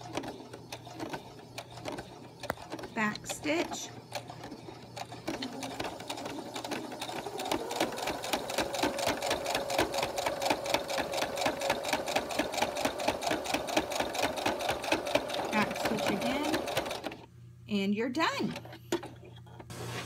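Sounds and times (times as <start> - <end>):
sewing machine stitching: 0.0 - 17.2.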